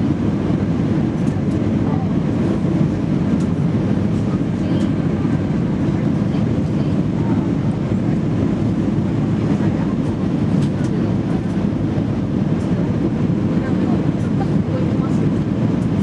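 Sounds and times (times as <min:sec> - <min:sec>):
jet cabin engine rumble: 0:00.0 - 0:16.0.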